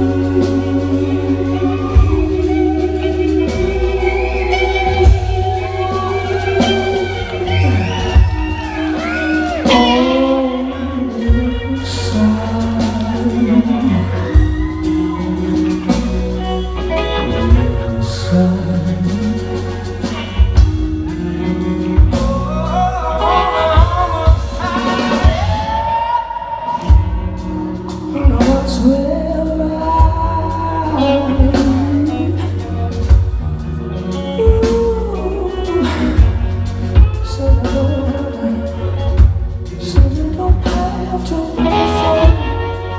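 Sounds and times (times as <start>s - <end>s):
man singing: 0.0s - 16.0s, 16.9s - 42.9s
bass guitar: 0.0s - 42.9s
drum kit: 0.0s - 42.9s
electric guitar: 0.0s - 42.9s.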